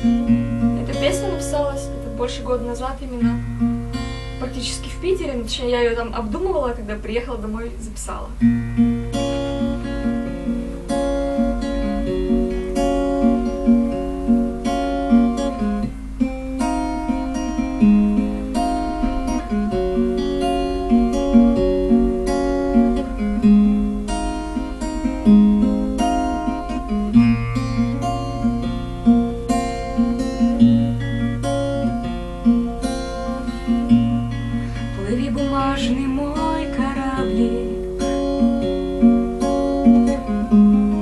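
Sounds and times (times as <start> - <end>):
acoustic guitar picking: 0.0 - 41.0.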